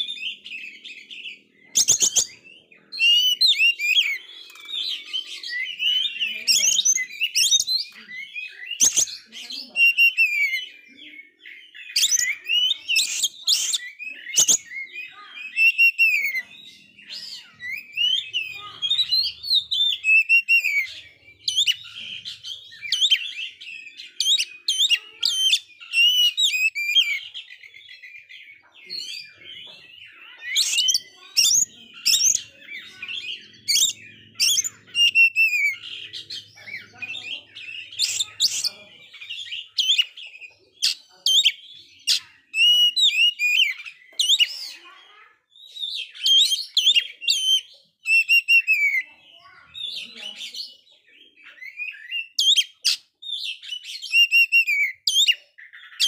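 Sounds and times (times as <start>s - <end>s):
songbird singing whistles: 0.0s - 44.9s, 45.5s - 49.1s, 51.4s - 56.0s.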